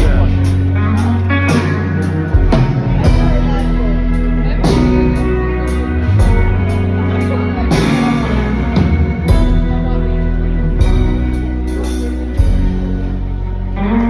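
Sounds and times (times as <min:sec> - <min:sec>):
bass notes: 0:00.0 - 0:14.0
guitar: 0:00.0 - 0:14.0
rock band instrumental: 0:00.0 - 0:14.0.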